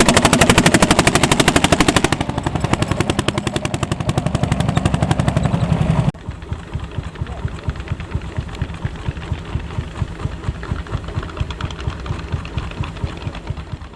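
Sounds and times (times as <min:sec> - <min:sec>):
quiet pulsing engine: 0:00.0 - 0:13.9
tractor engine exhaust beat: 0:00.0 - 0:13.9.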